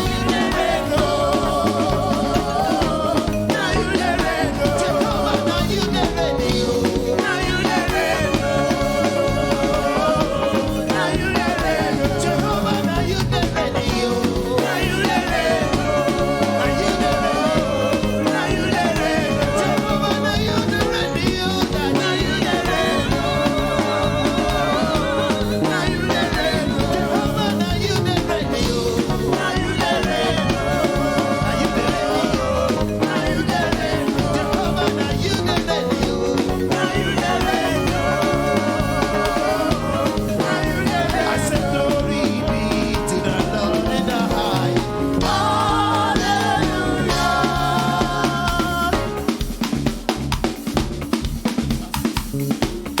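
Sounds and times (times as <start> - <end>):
singing: 0.0 - 49.6
worship band playing: 0.0 - 53.0.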